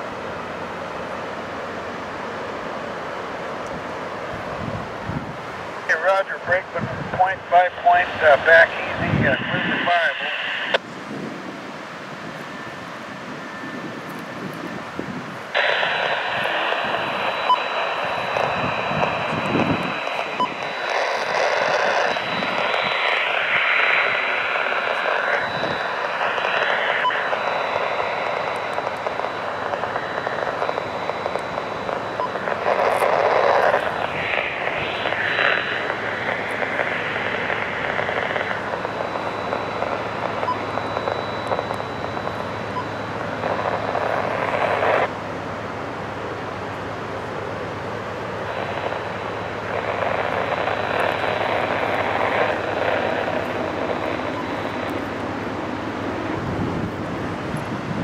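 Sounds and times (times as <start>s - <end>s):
radio static: 4.3s - 10.9s, 15.1s - 45.2s, 46.4s - 58.0s.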